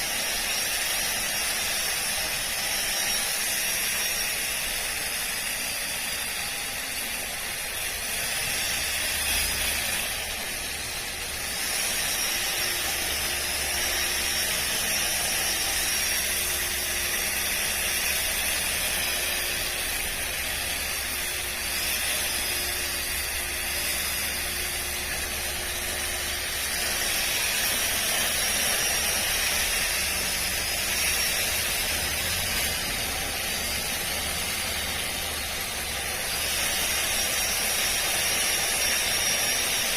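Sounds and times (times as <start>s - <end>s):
string trimmer cutting grass: 0.0s - 39.9s.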